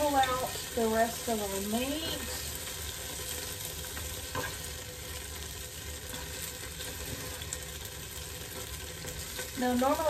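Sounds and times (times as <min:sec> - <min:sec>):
beef sizzling in a pot: 0:00.0 - 0:10.0
tongs stirring meat: 0:00.0 - 0:10.0.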